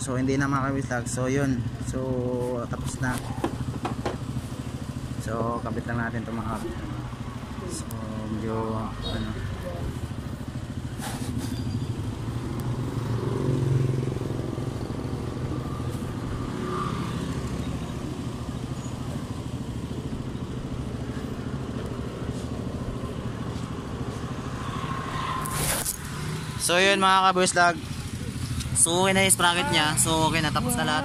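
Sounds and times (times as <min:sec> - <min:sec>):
motorcycle engines running: 0:00.0 - 0:31.0.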